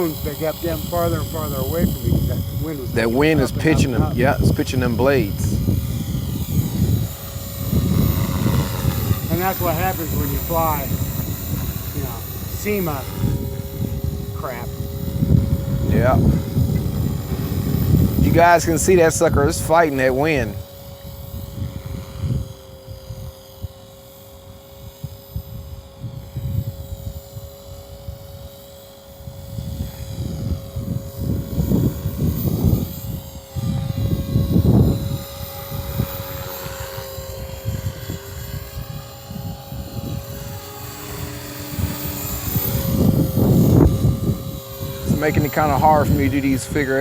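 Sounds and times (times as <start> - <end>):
rc helicopter rotor whine: 0.0 - 47.0
wind rumbling on microphone: 0.0 - 47.0.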